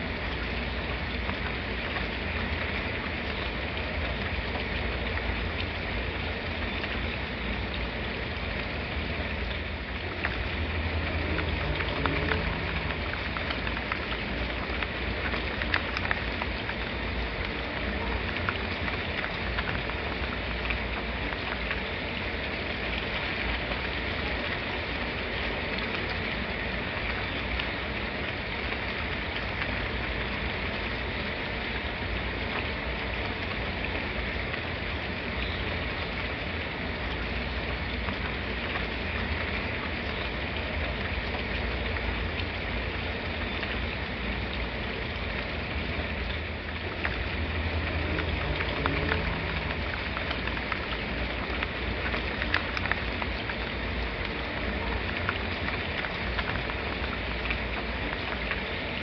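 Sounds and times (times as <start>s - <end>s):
sharp raindrop ticks: 0.0s - 59.0s
steady rain falling: 0.0s - 59.0s.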